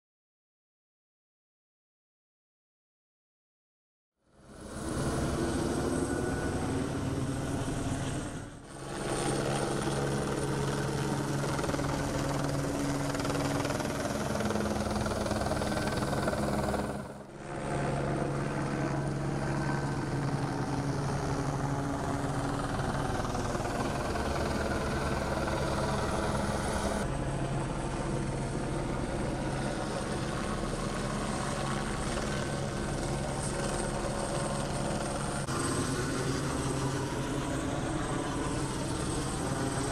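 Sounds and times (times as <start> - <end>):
helicopter rotor drone: 4.2 - 39.9.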